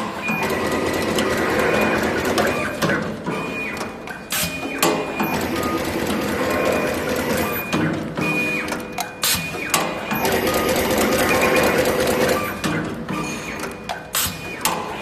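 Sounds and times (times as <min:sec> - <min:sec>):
sharp machine clacks: 0:00.0 - 0:15.0.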